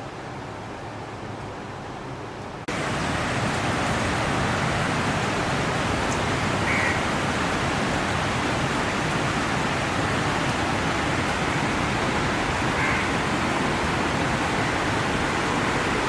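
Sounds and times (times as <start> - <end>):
steady rain falling: 2.6 - 16.0.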